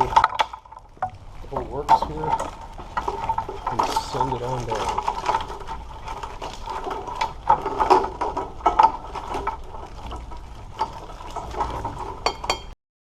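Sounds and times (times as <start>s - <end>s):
wiring harness rustling: 0.0s - 12.2s.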